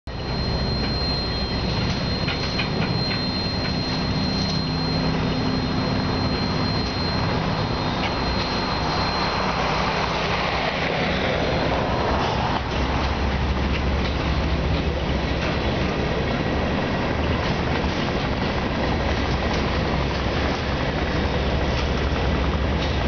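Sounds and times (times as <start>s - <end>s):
diesel locomotive engine drone: 0.1s - 23.0s
thin high whine: 0.1s - 23.0s.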